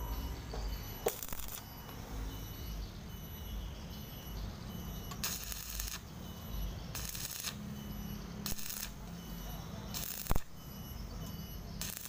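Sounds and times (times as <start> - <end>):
arc welding crackling: 0.0 - 2.0, 4.4 - 12.0
steady low hum: 0.0 - 12.0.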